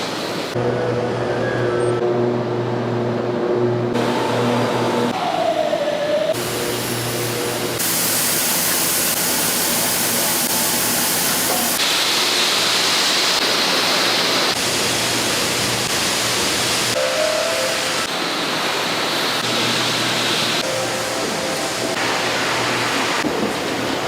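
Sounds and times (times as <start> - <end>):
industrial rushing hiss: 4.0 - 24.0.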